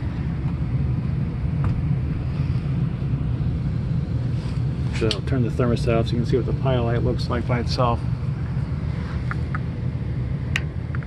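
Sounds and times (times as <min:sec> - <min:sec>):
gas burner low rumble: 0:00.0 - 0:11.0.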